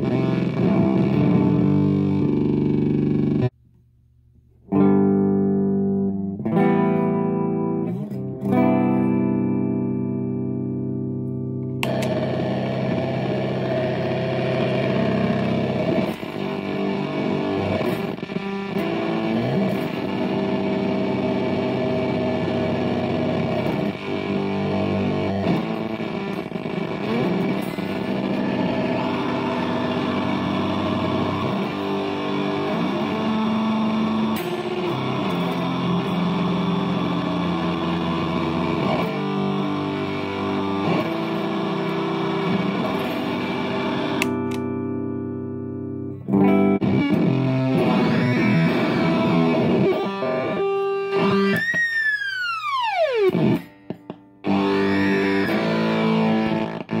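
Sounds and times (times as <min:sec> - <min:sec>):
electric guitar through effects pedal: 0:00.0 - 0:03.6, 0:04.6 - 0:57.0.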